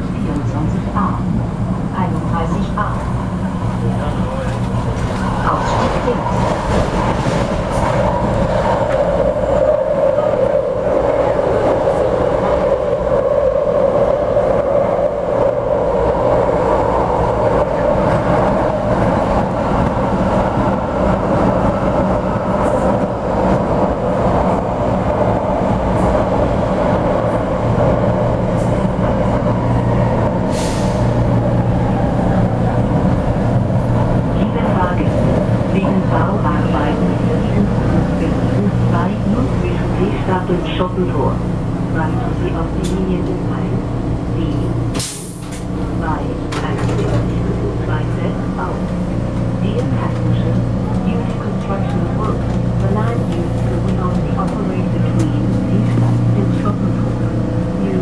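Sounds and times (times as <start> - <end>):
train motors humming: 0.0 - 58.0
train wheels rumbling on rails: 0.0 - 58.0.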